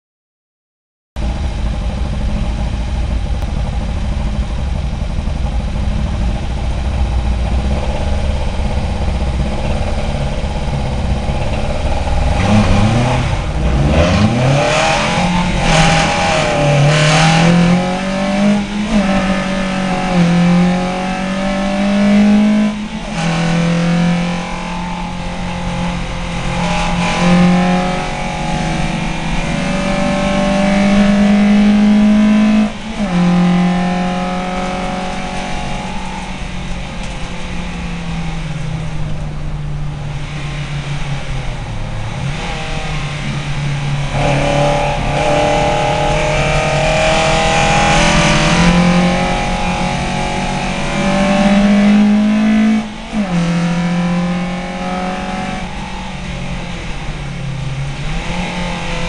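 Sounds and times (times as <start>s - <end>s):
race car engine revving: 1.2s - 59.0s.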